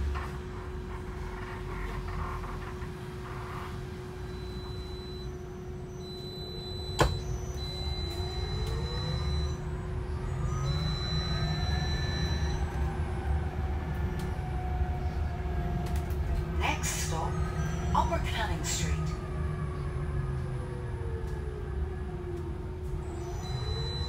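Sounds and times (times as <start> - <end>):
electric bus drive whine: 0.0 - 24.0
steady hum and low rumble: 0.0 - 24.0.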